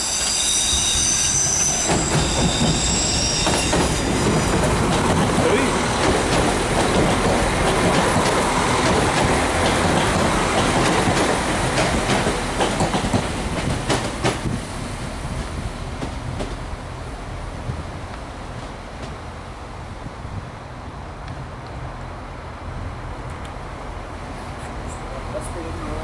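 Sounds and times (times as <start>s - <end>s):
train rail rumble: 0.0s - 26.0s.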